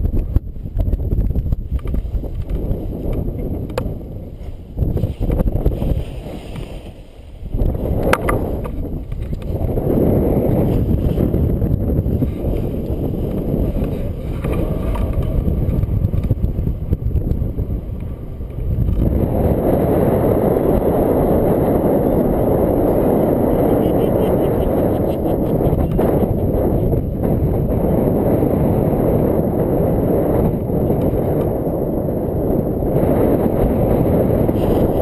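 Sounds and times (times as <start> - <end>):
gusty wind buffeting microphone: 0.0 - 35.0.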